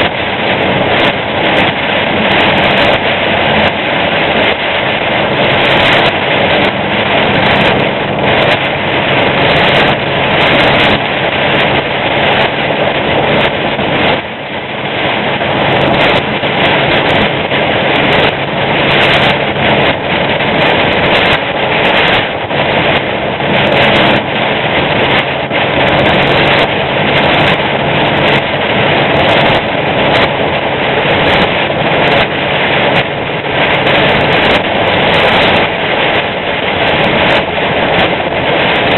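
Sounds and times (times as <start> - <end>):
rain and road noise hiss: 0.0 - 38.9
truck engine drone: 0.0 - 38.9.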